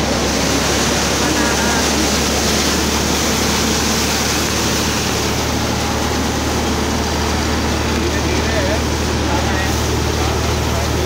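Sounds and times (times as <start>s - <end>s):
thresher machine running: 0.0s - 11.0s.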